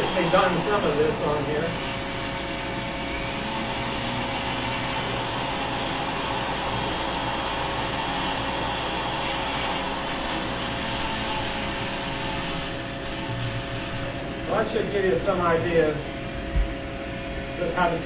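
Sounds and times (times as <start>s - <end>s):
rotary tool whining on wood: 0.0s - 16.0s
vacuum dust extractor: 0.0s - 16.7s.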